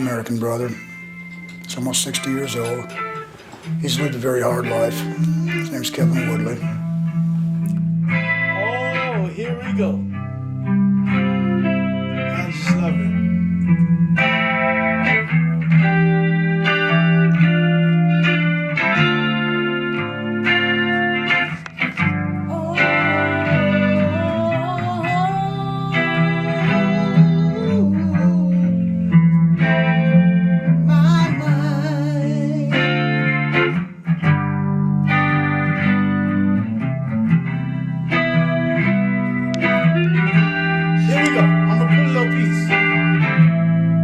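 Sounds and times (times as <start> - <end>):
instrumental guitar band music: 0.0 - 44.0.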